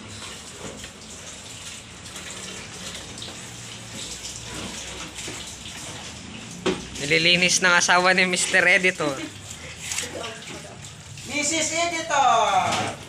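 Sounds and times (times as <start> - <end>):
plastic containers being washed: 0.0 - 13.0
water running from a hose: 0.0 - 13.0.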